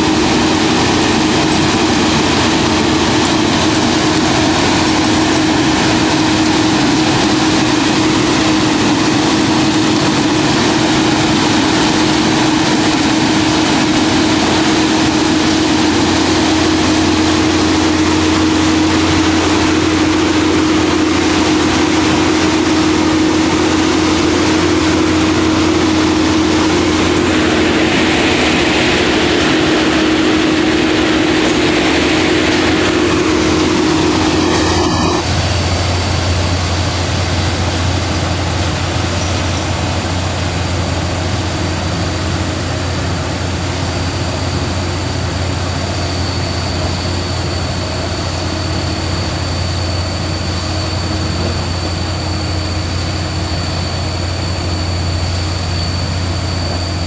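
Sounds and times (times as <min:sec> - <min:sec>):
machine engine humming: 0:00.0 - 0:57.0.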